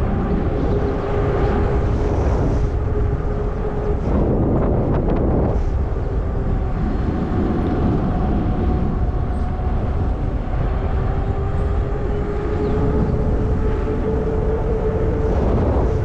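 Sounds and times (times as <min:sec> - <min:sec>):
low hum from bike: 0:00.0 - 0:16.0
wind rushing over microphone: 0:00.0 - 0:16.0.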